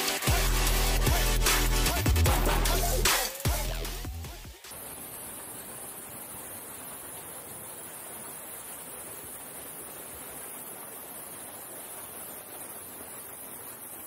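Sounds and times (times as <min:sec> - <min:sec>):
high steady hiss: 0:00.0 - 0:14.0.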